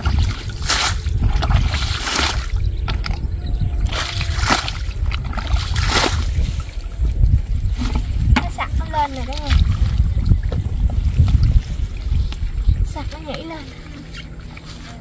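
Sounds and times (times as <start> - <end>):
water splashing from bucket: 0.0 - 3.2, 3.8 - 6.8, 7.7 - 15.0
low rumble: 0.0 - 15.0.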